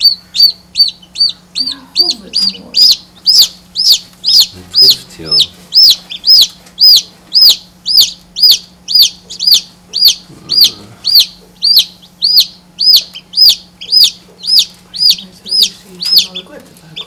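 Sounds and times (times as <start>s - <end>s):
chick peeping loudly: 0.0s - 17.0s
faint low hum: 0.0s - 17.0s.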